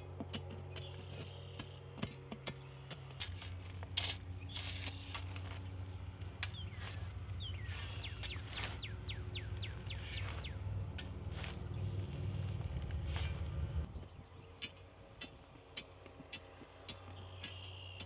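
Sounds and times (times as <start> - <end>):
low hum: 3.1 - 17.8.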